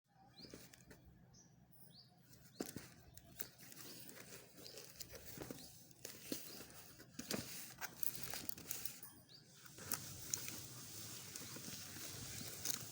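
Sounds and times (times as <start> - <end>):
packaging rustling: 2.4 - 12.9.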